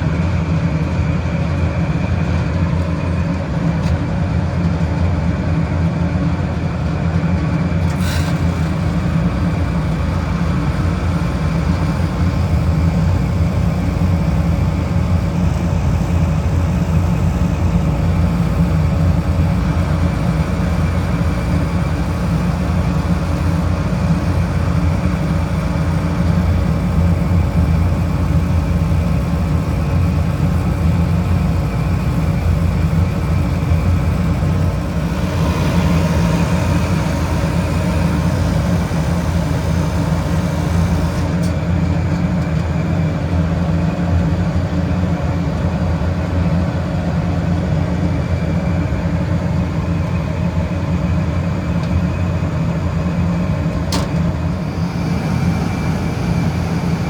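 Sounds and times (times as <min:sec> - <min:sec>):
refrigeration unit humming: 0:00.0 - 0:57.0.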